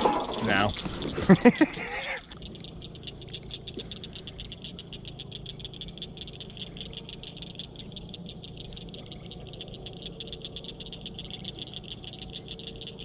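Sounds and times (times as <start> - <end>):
high-pitched pulsing animal trill: 0.0 - 13.0
low steady hum: 0.0 - 13.0.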